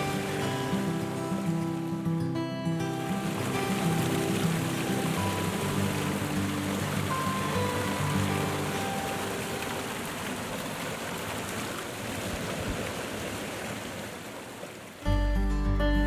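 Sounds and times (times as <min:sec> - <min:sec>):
waterfall rushing: 0:00.0 - 0:15.1.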